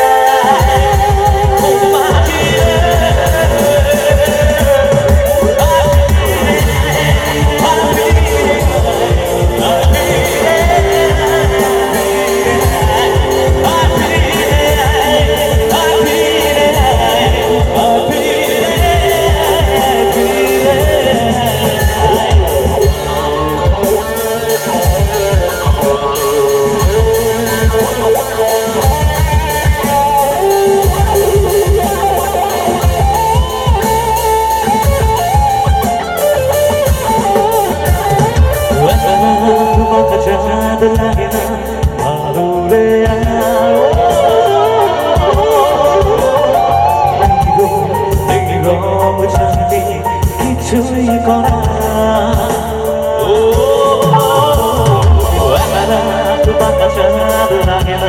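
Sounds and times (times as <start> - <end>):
drum and bass beat: 0.0 - 58.0
live band playing through pa: 0.0 - 58.0.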